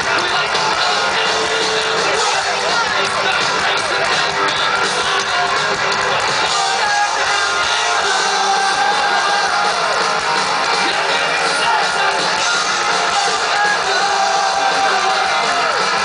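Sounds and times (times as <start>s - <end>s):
person singing: 0.0s - 10.0s, 10.7s - 16.0s
drums: 0.0s - 16.0s
electric guitar: 0.0s - 16.0s
punk rock band playing: 0.0s - 16.0s.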